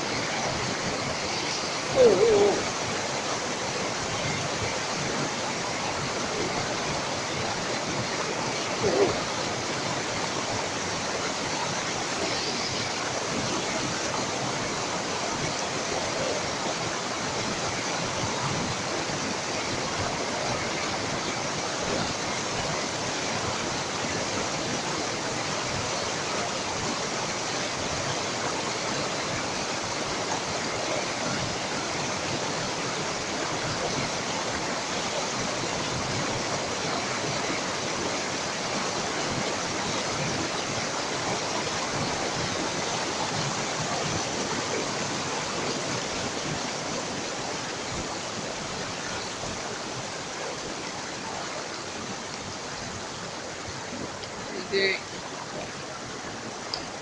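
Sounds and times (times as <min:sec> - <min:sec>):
stream rushing over boulders: 0:00.0 - 0:57.0.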